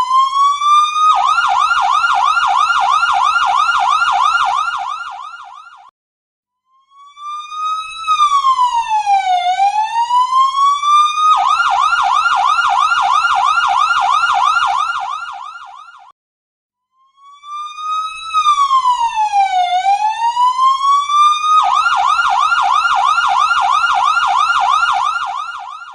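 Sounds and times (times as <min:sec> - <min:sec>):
electronic ambulance siren: 0:00.0 - 0:05.9, 0:06.7 - 0:16.1, 0:16.9 - 0:25.9.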